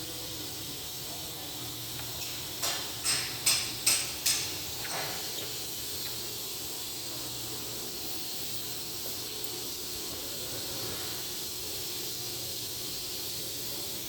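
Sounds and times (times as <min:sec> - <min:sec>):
steam hissing from engine: 0:00.0 - 0:14.0.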